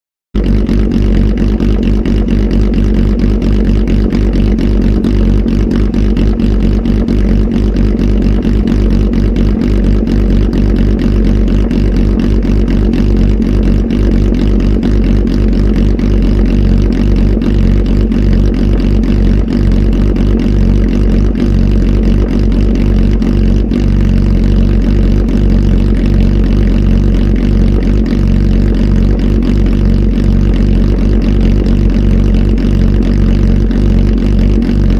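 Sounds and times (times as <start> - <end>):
motorcycle engine running: 0.4 - 34.9.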